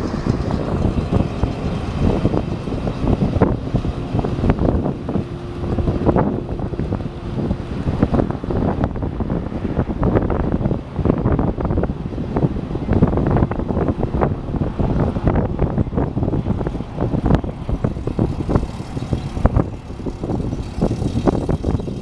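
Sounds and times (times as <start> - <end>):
combine diesel engine running: 0.0 - 22.0
wind buffeting microphone: 0.0 - 22.0.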